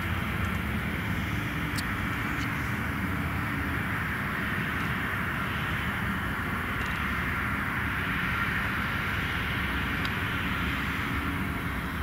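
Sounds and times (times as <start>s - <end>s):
jet engines low rumble and hiss: 0.0s - 12.0s.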